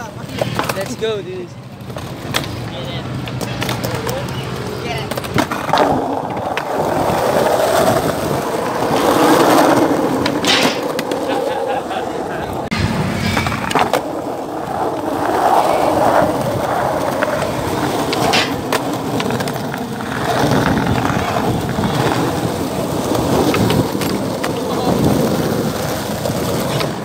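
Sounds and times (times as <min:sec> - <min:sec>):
skateboard wheels rolling on asphalt: 0:00.0 - 0:27.0.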